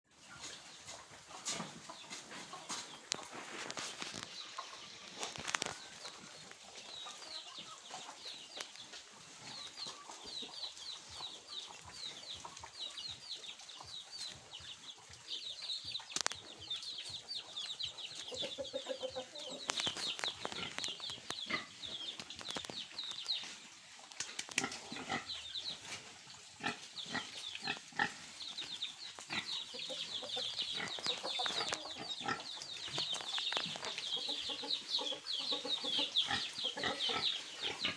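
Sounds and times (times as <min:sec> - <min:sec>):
chickens clucking: 0:00.1 - 0:37.9.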